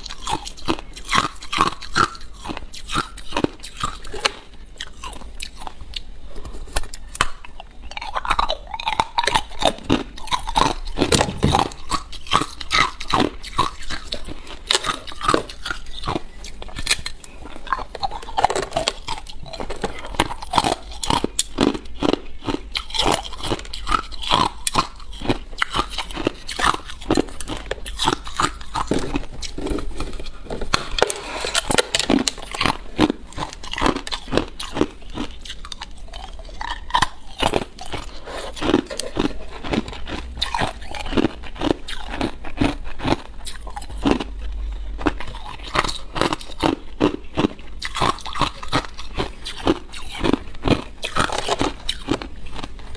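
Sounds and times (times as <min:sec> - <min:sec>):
ice crunching while chewed: 0:00.0 - 0:52.9.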